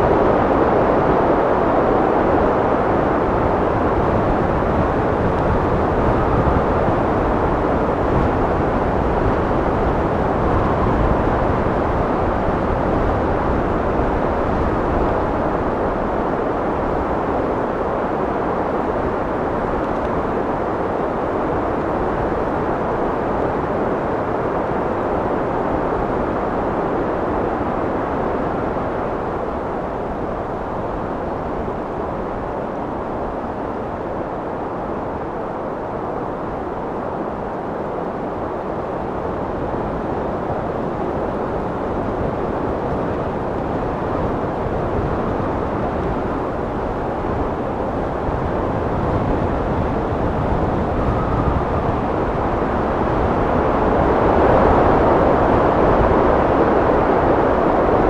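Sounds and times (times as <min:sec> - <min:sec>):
steady wind rushing: 0:00.0 - 0:58.0.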